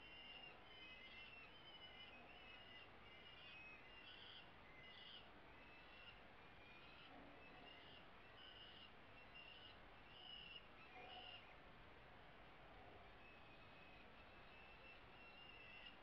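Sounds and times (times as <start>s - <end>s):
falcon chicks begging calls: 0.0s - 11.6s, 13.3s - 16.0s.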